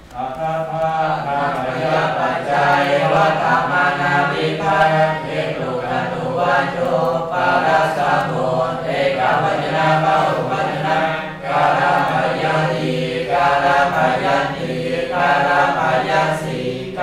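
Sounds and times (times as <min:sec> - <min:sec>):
group chanting in unison: 0:00.2 - 0:17.0.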